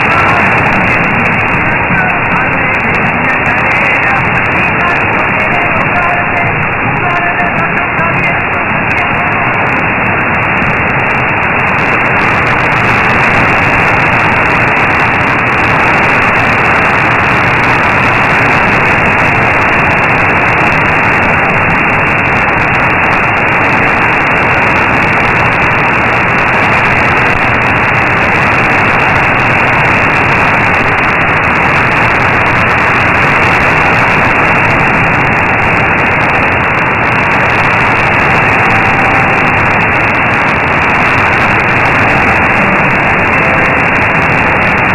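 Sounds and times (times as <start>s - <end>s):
radio static hiss: 0.0s - 44.9s.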